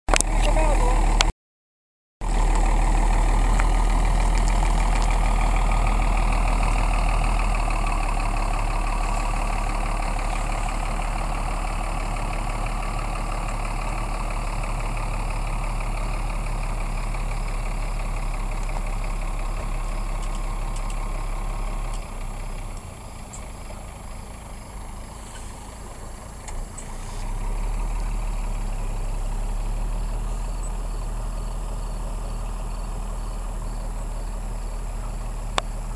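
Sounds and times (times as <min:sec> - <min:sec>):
diesel truck engine running: 0:00.1 - 0:01.3, 0:02.2 - 0:35.9.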